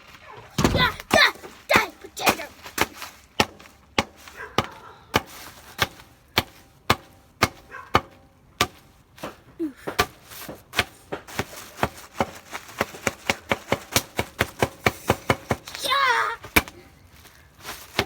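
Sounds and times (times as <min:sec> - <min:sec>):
bubble wrap popping from blows: 0:00.0 - 0:06.6, 0:09.5 - 0:18.0.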